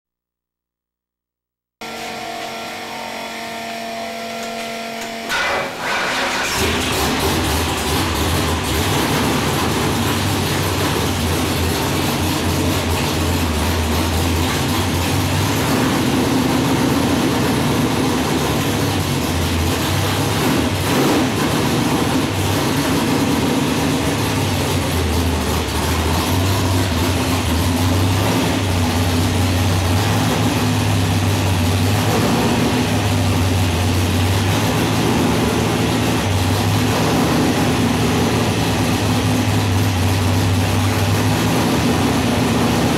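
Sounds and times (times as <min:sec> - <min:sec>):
engine idling: 0:05.3 - 0:42.9.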